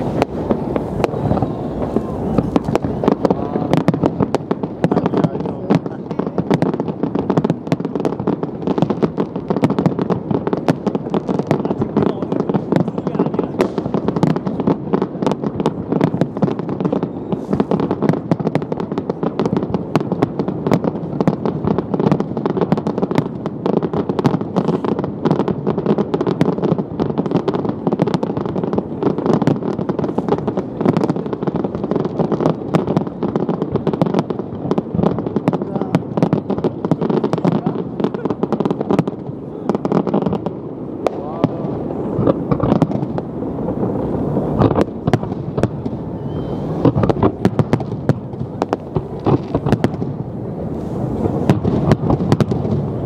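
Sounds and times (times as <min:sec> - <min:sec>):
fireworks bangs: 0:00.0 - 0:53.0.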